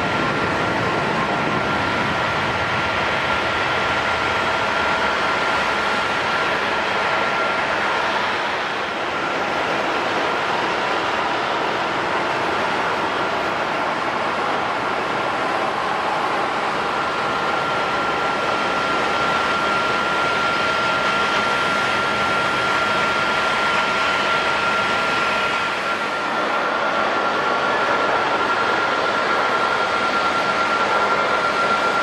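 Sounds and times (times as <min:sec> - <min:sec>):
jet engines running: 0:00.0 - 0:32.0.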